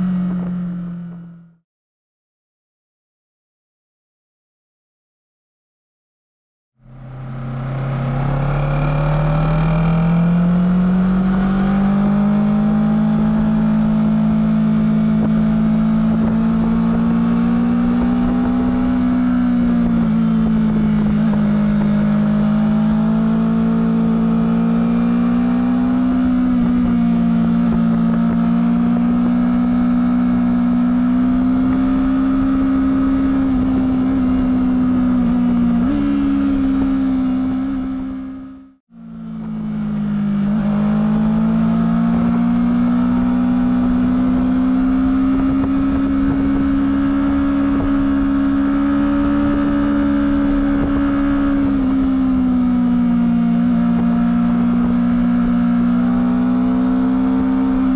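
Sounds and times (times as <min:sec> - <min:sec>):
motorcycle engine running: 0:06.9 - 0:57.9.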